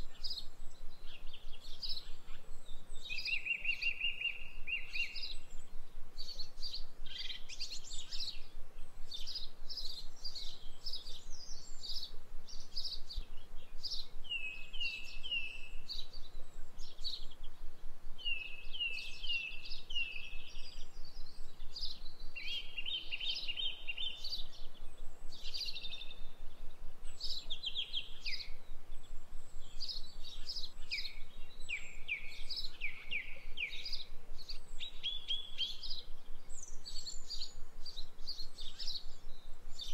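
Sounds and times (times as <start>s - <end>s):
faint steady hum: 0.0s - 39.9s
songbirds chirping and singing: 0.0s - 39.9s.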